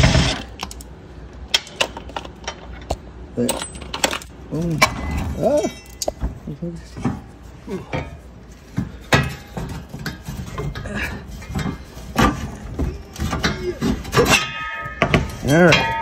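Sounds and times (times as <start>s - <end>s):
metal clinks and knocks: 1.5s - 16.0s.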